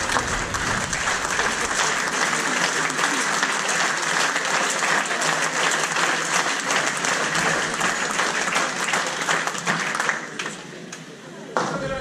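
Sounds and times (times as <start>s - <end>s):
spectators applauding: 0.0s - 10.9s.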